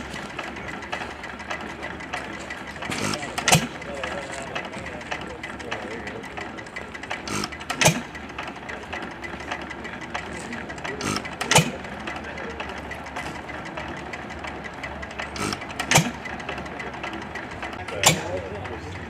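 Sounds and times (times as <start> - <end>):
engine coasting: 0.0 - 19.0
gas engine exhaust bangs: 0.0 - 19.0.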